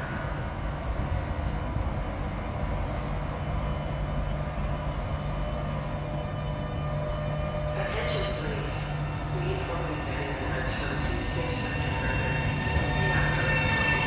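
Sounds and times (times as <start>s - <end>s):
electric train rumbling slowly: 0.0s - 14.0s.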